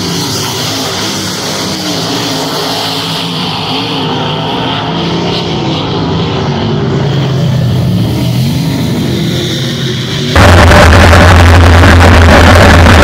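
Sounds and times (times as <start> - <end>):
race car engines racing: 0.0 - 13.0.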